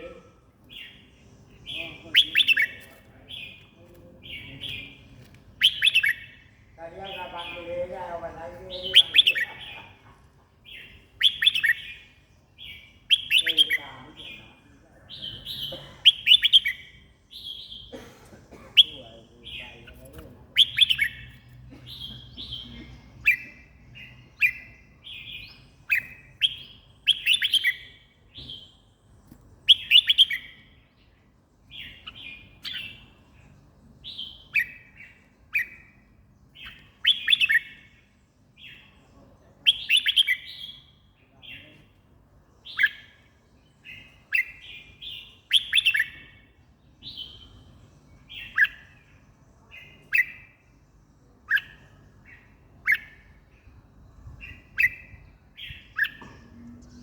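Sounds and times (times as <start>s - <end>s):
bird singing warbled phrases: 0.0s - 57.0s.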